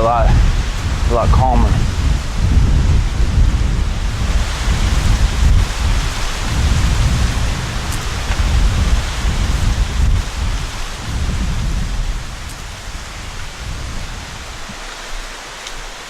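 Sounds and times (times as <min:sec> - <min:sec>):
wind hissing through trees: 0:00.0 - 0:16.0
wind rumbling on microphone: 0:00.0 - 0:16.0.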